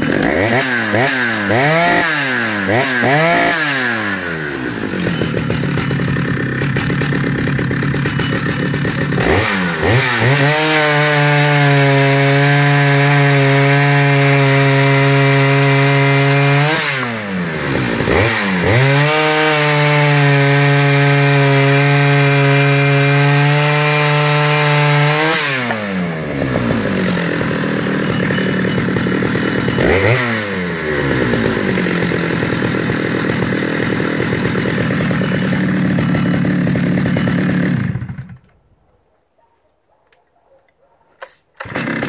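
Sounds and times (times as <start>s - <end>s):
chainsaw revving and idling: 0.0s - 38.6s, 41.6s - 42.0s.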